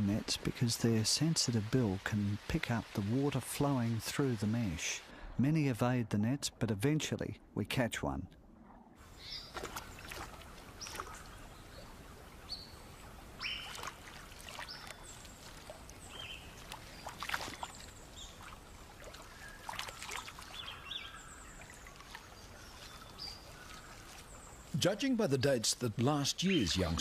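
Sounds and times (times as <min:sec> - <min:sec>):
water splashing and trickling: 0:00.0 - 0:06.7, 0:09.0 - 0:27.0.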